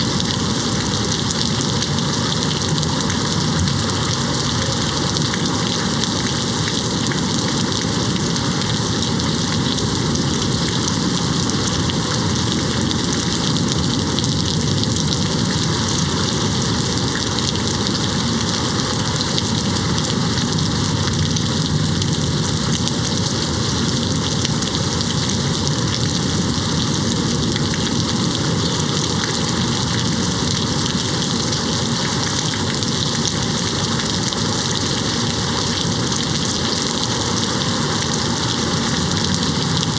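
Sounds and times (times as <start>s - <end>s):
rain hitting a window: 0.0s - 39.9s.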